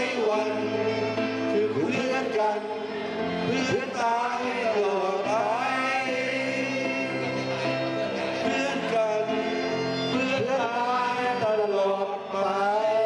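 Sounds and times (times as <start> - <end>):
electronic keyboard accompaniment: 0.0 - 13.0
group singing into microphones: 0.0 - 13.0.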